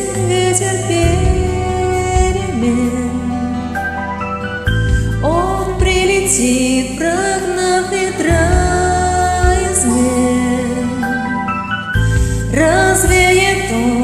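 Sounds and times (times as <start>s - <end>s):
woman singing: 0.0s - 4.0s, 5.2s - 14.0s
karaoke backing track: 0.0s - 14.0s.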